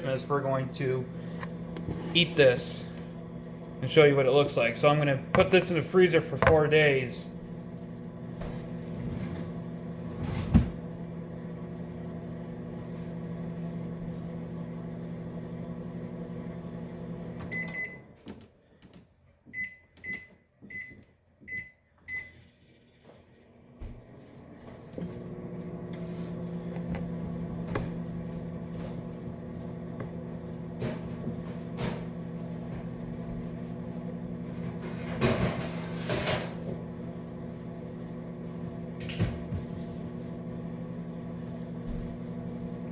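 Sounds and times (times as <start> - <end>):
microwave oven humming: 0.0 - 18.7, 19.4 - 42.9.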